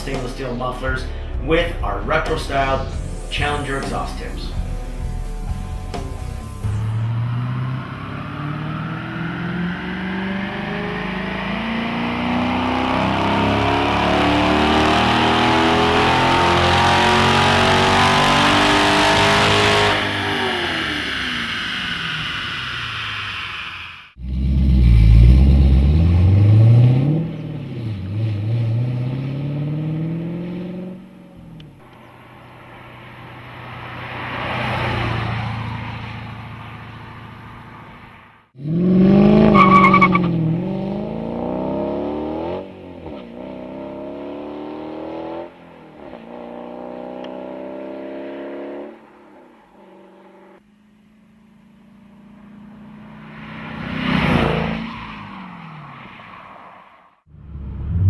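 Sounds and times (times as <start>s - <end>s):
car driving past: 0.0s - 50.6s, 51.6s - 58.0s
car engine accelerating hard: 2.6s - 56.0s, 57.3s - 58.0s.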